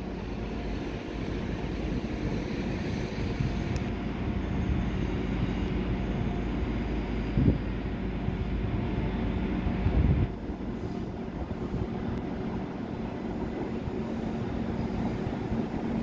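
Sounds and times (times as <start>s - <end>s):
train approaching with low rumble: 0.0s - 16.0s.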